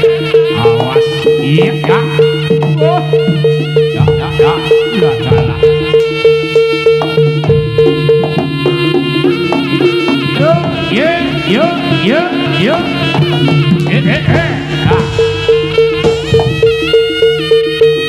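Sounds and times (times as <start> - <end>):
drums beating steadily: 0.0 - 18.0
gamelan-style ensemble: 0.0 - 18.0
reed melody: 0.0 - 18.0.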